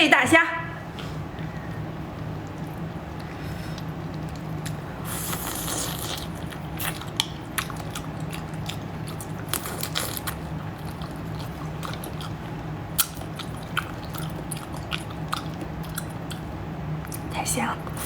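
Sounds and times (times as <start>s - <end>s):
steady low hum: 0.0s - 18.0s
person chewing crunchy food: 2.4s - 17.3s.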